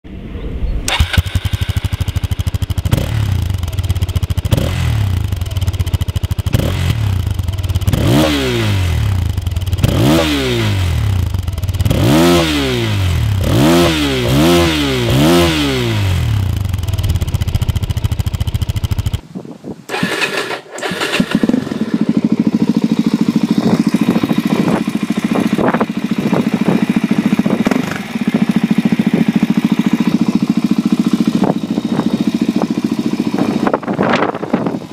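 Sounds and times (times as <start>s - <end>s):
motorcycle engine idling and revving: 0.8s - 19.3s, 19.9s - 34.9s.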